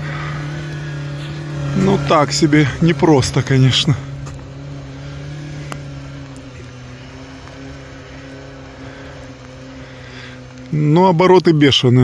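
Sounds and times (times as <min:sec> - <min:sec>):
off-road vehicle engine at high revs: 0:00.0 - 0:12.0.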